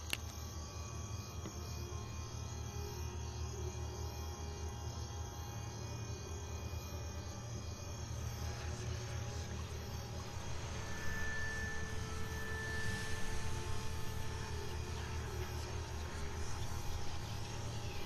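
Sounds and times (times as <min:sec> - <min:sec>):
low rumbling drone: 0:00.1 - 0:18.0
sustained tones: 0:00.1 - 0:18.0.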